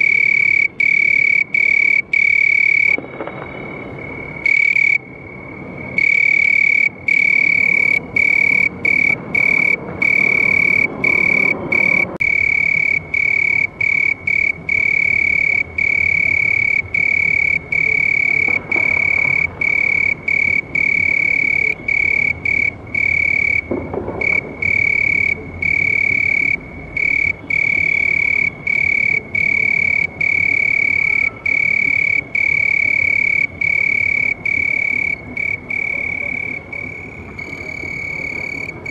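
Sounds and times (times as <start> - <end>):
cricket trilling: 0.0 - 38.9.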